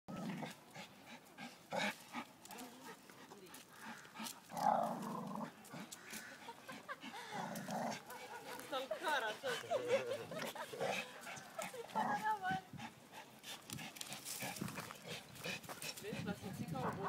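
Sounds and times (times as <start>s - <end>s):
dogs play-growling: 0.1s - 8.7s, 9.5s - 16.2s.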